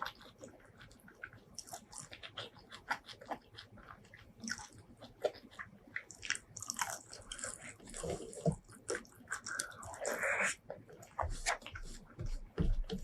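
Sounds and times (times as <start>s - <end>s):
chewing with wet mouth clicks: 0.0s - 12.1s.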